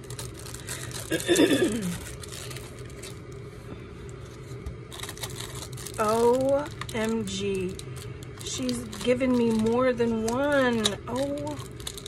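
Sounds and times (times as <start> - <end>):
plastic bags rustling: 0.0 - 12.0
steady low hum: 0.0 - 12.0.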